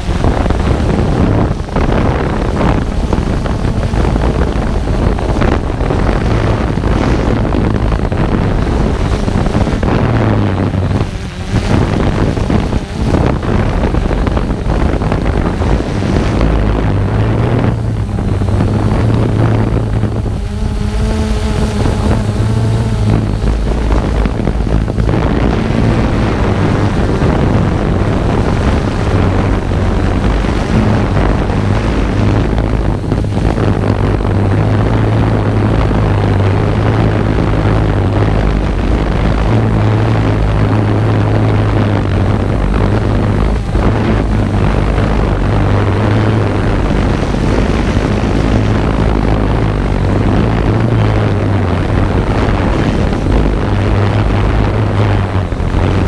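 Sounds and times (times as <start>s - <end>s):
drone motors humming: 0.0s - 56.0s.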